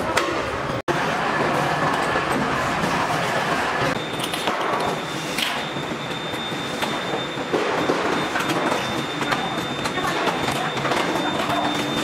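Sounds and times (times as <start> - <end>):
factory machinery din: 0.0 - 12.0.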